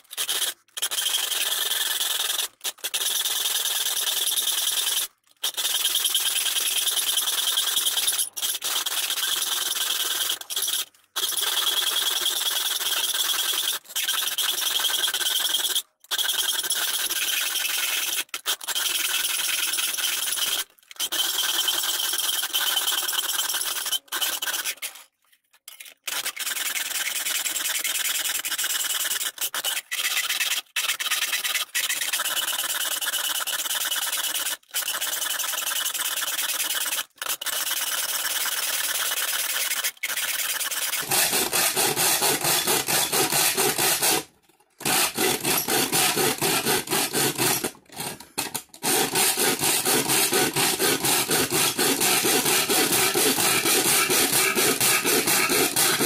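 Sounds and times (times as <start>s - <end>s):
hand file rasping on metal sheet: 0.0s - 25.1s, 26.1s - 56.0s.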